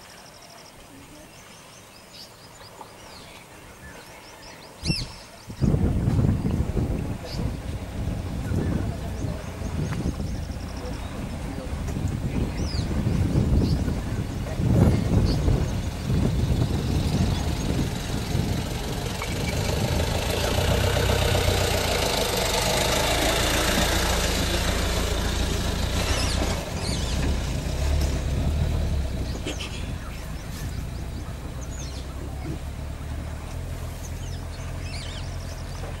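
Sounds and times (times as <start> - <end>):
water sloshing: 5.8 - 36.0
vehicle engine idling: 6.2 - 36.0.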